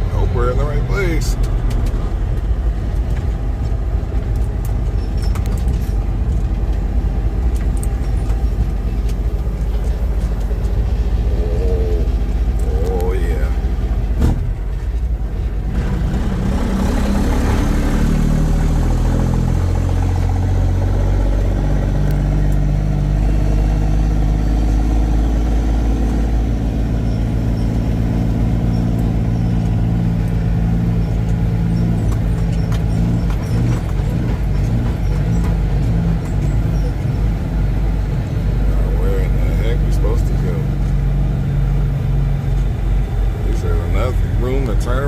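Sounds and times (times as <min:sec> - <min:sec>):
road rumble: 0:00.0 - 0:45.0
truck diesel engine running: 0:00.0 - 0:45.0.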